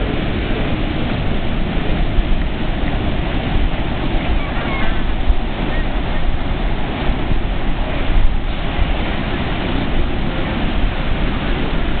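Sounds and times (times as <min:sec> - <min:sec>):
heavy surf breaking on beach: 0:00.0 - 0:12.0
wind buffeting microphone: 0:00.0 - 0:12.0.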